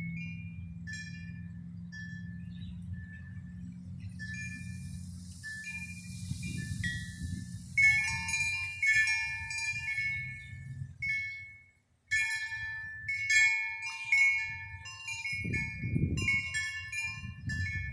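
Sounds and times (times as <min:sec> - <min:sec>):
tubular wind chime ringing: 0:00.0 - 0:17.9.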